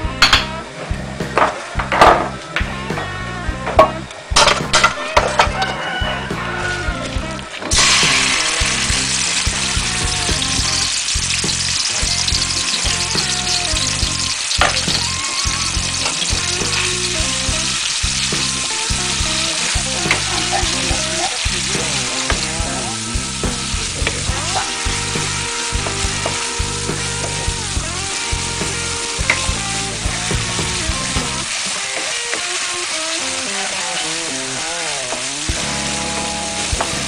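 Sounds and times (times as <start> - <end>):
background music: 0.0 - 37.0
paste sizzling in hot oil: 6.6 - 37.0.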